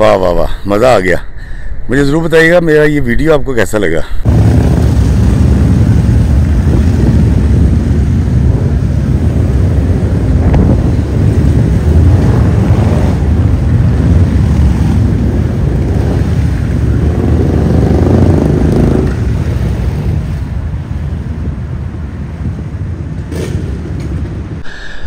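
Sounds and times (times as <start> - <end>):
city traffic: 4.0 - 25.0
motorcycles riding past rumbling: 4.3 - 24.6.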